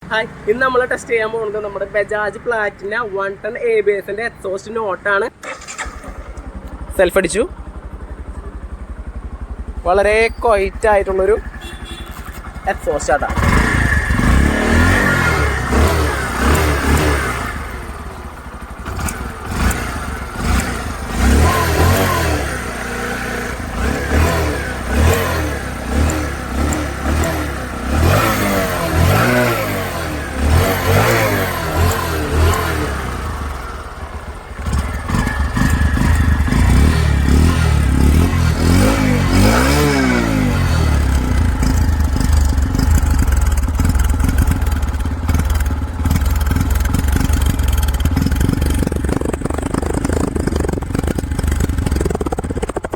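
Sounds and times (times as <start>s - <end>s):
motorcycle engine revving: 5.3s - 52.9s.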